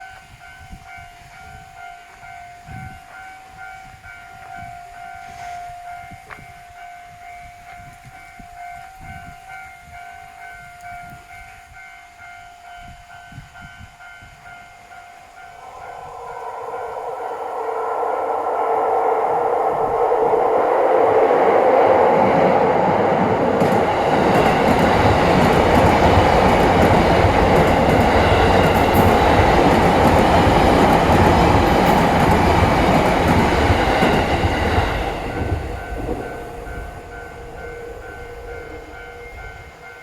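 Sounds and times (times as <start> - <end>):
train passing: 0.0 - 7.7, 12.6 - 40.0
level-crossing warning bell: 0.0 - 40.0.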